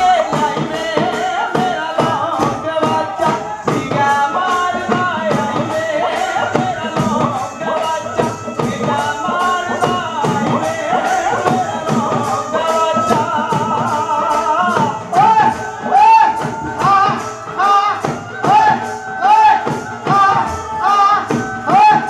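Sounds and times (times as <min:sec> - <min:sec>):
dhol drum beating: 0:00.0 - 0:22.0
person singing: 0:00.0 - 0:22.0.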